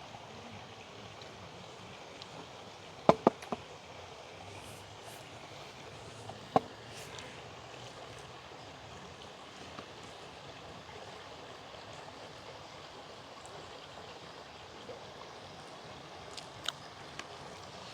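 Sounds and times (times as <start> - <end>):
flowing water rushing: 0.0 - 17.9.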